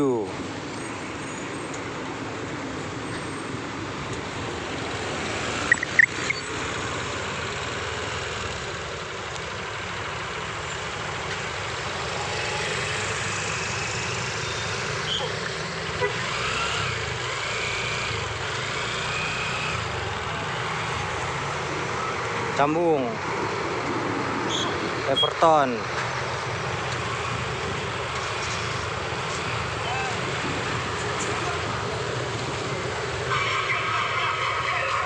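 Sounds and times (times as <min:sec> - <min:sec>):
traffic engine and road noise: 0:00.0 - 0:35.0.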